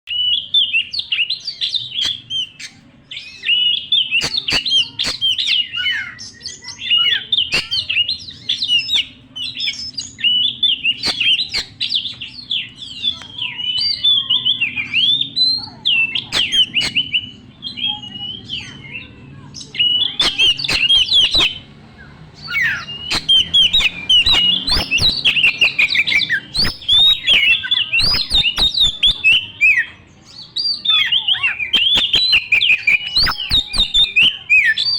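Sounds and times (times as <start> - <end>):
magpie-robin singing: 0.1 - 34.9.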